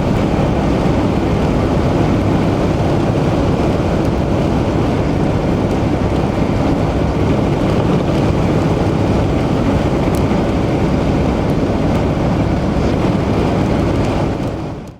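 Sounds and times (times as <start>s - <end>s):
road and wind noise inside car: 0.0s - 14.9s.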